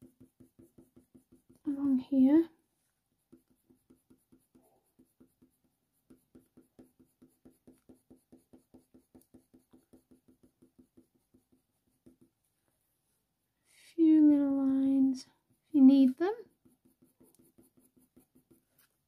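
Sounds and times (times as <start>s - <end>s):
coloured pencil scratching on paper: 0.0s - 2.4s, 3.1s - 12.5s, 15.2s - 19.0s.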